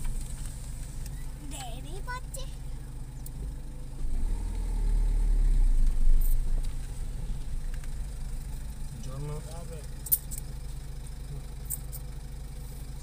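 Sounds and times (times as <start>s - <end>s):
car engine rumble from inside: 0.0s - 13.0s.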